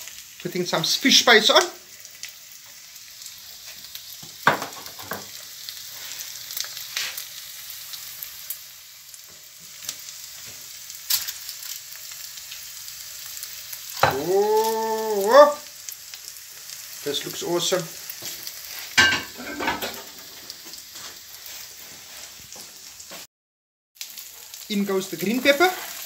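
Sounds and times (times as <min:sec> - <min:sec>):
onion sizzling in a pan: 0:00.0 - 0:23.3, 0:24.0 - 0:26.0.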